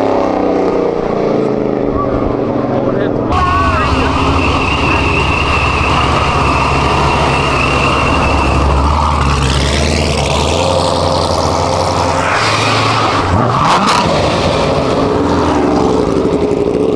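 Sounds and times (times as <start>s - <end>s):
car engine idling: 3.0s - 16.9s
high whine: 3.3s - 16.9s.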